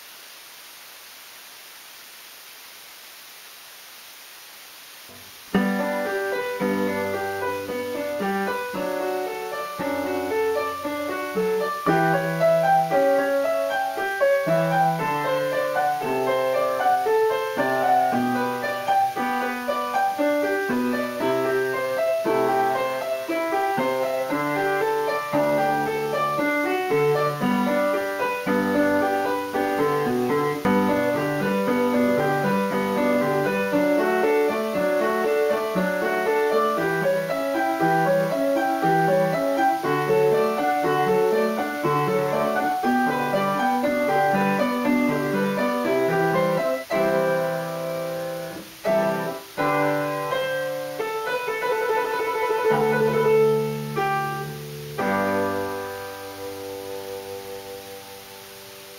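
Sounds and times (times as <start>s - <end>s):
background piano music: 5.5s - 58.9s.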